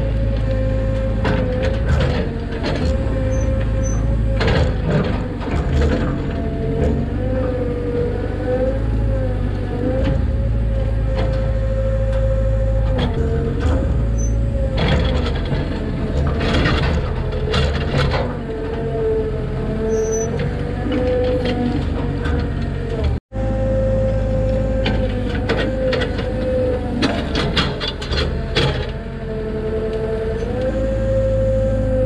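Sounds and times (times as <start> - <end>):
excavator engine running: 0.0 - 32.0
hydraulic whine: 0.0 - 32.0.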